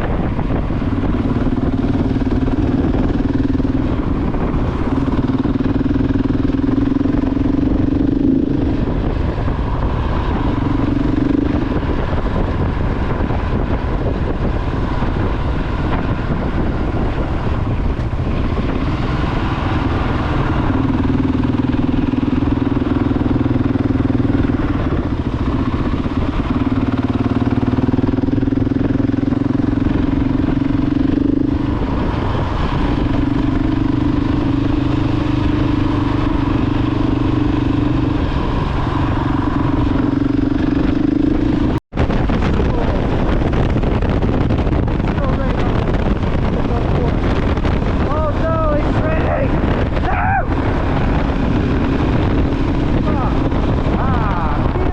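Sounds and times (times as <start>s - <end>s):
motorcycle engine droning: 0.0s - 54.9s
wind and road noise: 0.0s - 54.9s.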